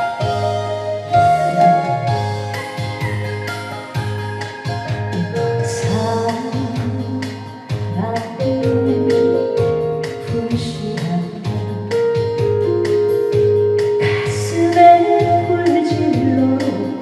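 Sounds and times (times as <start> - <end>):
electronic organ with beat: 0.0 - 17.0
person singing a ballad: 0.0 - 17.0.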